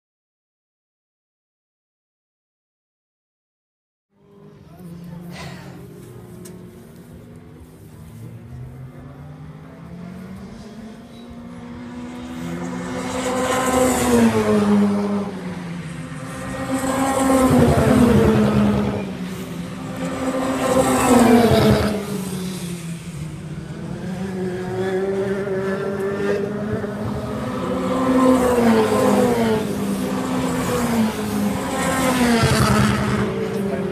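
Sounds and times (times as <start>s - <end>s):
race car engines passing: 4.2s - 33.9s.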